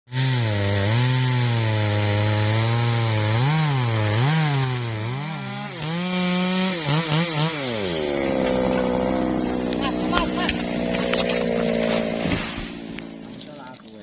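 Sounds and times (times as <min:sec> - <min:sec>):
chainsaw cutting wood: 0:00.1 - 0:14.0.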